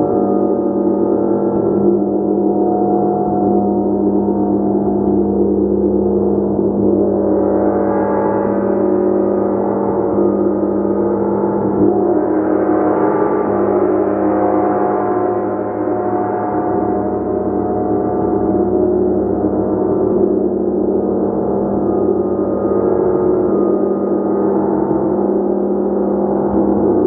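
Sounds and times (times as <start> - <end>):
gong played continuously: 0.0 - 27.0.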